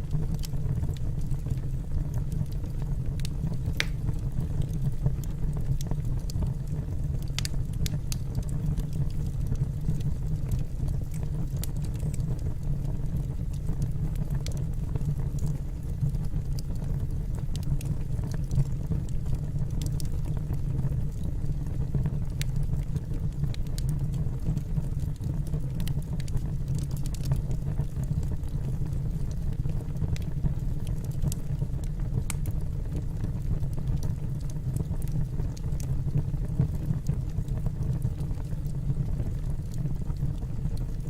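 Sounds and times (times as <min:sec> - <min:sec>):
burning wood crackling and popping: 0:00.0 - 0:41.0
low rumble of fire: 0:00.0 - 0:41.0.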